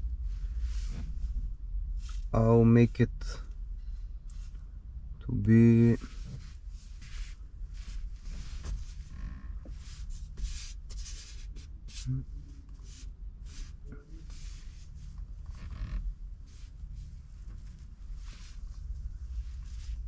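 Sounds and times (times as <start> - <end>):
steady low rumble: 0.0 - 20.0
handling rustling and scrapes: 0.2 - 2.3, 6.0 - 20.0.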